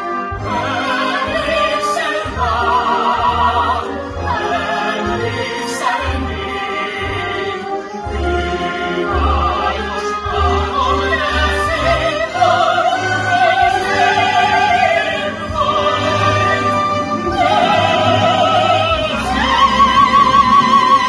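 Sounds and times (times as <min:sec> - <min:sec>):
orchestral accompaniment: 0:00.0 - 0:21.0
soprano and tenor singing duet: 0:00.0 - 0:21.0.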